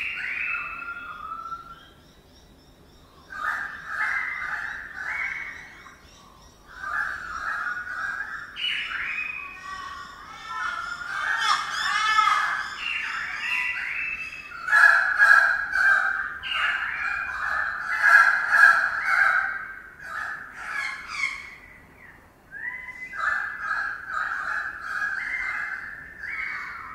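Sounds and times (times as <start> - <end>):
birds calling loudly: 0.0 - 26.9.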